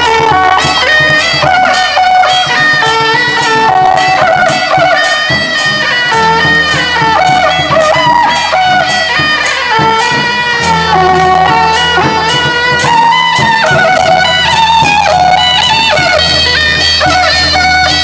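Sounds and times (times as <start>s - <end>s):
percussion strikes: 0.0s - 18.0s
shrill reed shawms melody: 0.0s - 18.0s.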